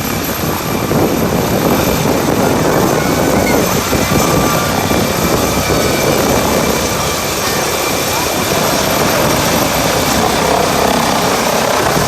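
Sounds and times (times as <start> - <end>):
helicopter rotor and turbine: 0.0 - 12.0
wind buffeting microphone: 0.0 - 12.0.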